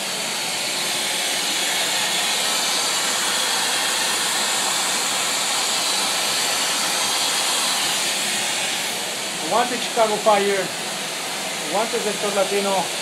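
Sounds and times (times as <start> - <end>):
water spraying from pipe: 1.9 - 13.0.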